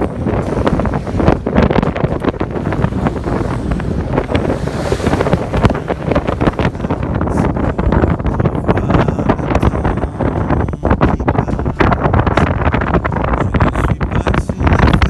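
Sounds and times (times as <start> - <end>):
waves washing against hull: 0.0 - 15.0
wind buffeting microphone: 0.0 - 15.0.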